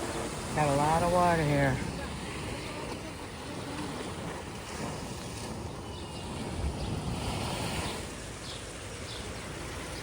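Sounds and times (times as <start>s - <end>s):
water rushing: 0.0s - 10.0s
wind buffeting microphone: 0.0s - 10.0s.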